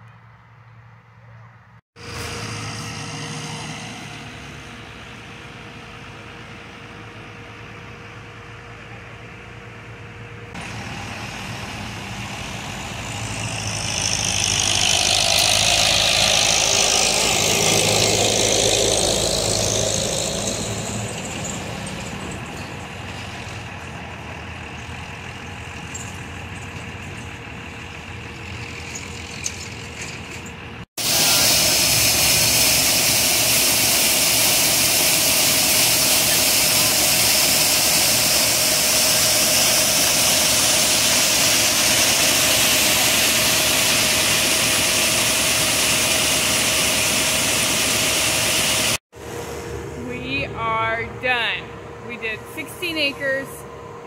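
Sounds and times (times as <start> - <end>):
grain auger machinery drone: 2.0 - 54.0
tractor engine running: 2.0 - 54.0.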